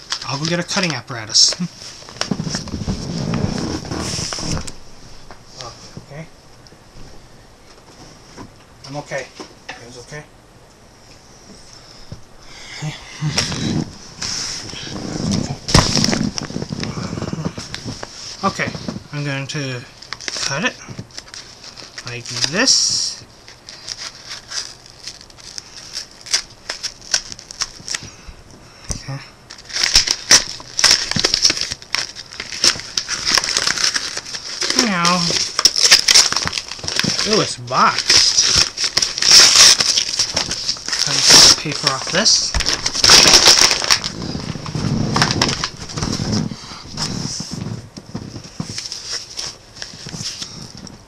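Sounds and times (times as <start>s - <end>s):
paper and cardboard rustling: 0.0s - 6.2s, 13.2s - 28.1s, 29.5s - 51.0s.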